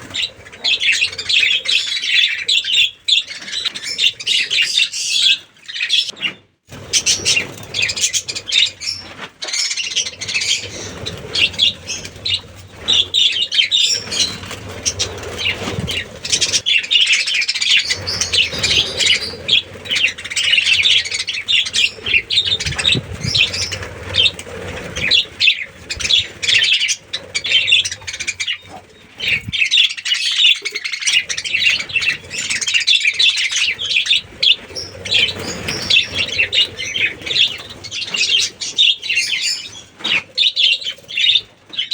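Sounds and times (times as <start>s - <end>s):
budgerigars chattering and chirping: 0.0s - 6.2s, 6.8s - 41.9s.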